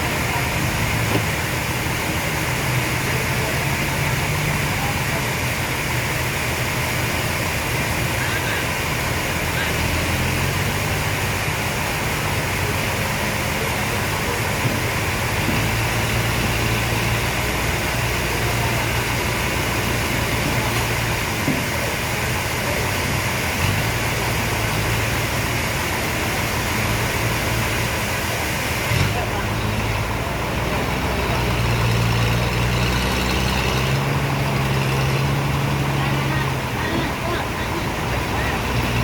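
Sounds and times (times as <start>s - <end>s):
sawmill machinery humming: 0.0s - 39.0s.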